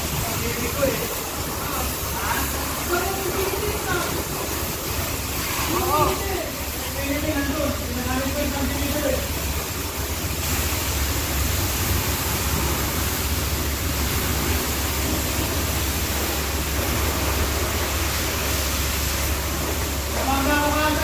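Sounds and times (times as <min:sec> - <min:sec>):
pressure water spray hissing: 0:00.0 - 0:21.0.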